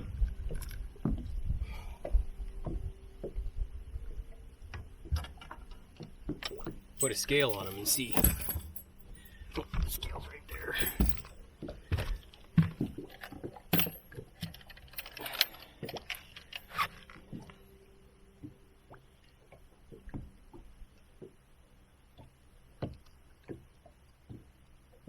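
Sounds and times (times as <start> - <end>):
handling clatter in a boat: 0.0 - 25.0.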